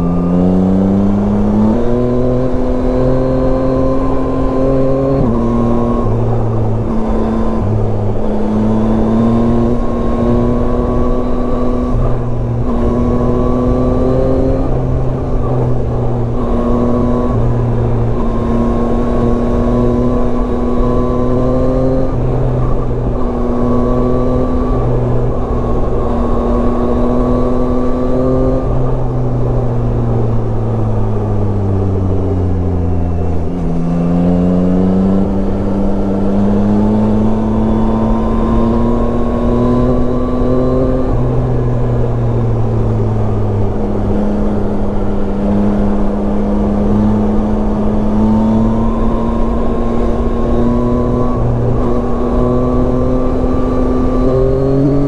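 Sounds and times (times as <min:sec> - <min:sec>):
motorcycle engine at road speed: 0:00.0 - 0:55.0.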